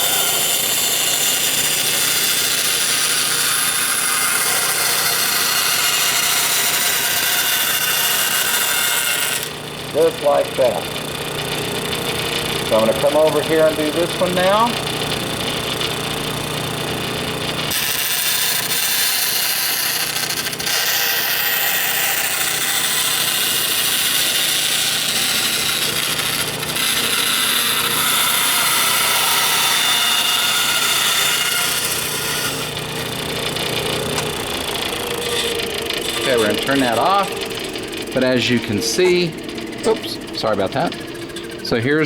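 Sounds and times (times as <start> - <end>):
bandsaw cutting acrylic hissing: 0.0 - 17.0, 17.6 - 42.0
bandsaw motor hum: 0.0 - 42.0.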